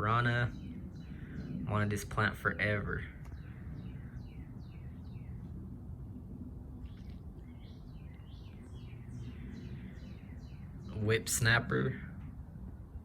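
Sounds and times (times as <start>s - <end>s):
songbird chirping: 0.0s - 5.7s, 6.8s - 12.0s
steady low rumble: 0.0s - 13.0s.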